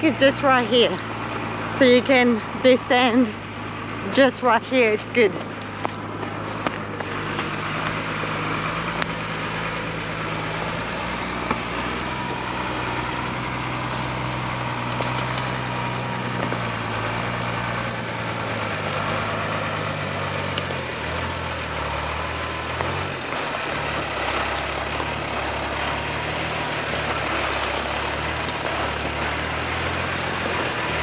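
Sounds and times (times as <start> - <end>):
diesel truck engine running: 0.0 - 31.0.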